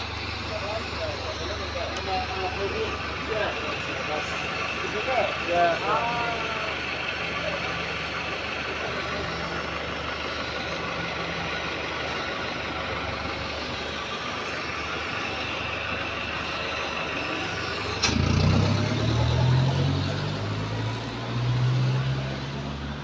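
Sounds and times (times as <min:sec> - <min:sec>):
bus engine and road noise: 0:00.0 - 0:23.0
diesel engine low drone: 0:00.0 - 0:23.0.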